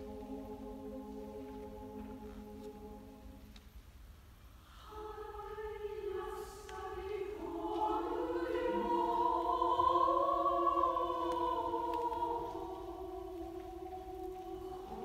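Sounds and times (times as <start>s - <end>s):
women's choir singing: 0.0s - 3.7s, 4.8s - 15.0s.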